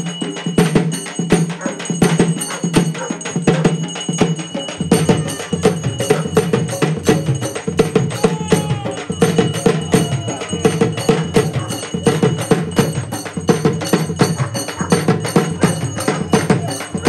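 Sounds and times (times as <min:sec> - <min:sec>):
drums played fast: 0:00.0 - 0:17.0
metallic ringing: 0:00.0 - 0:17.0.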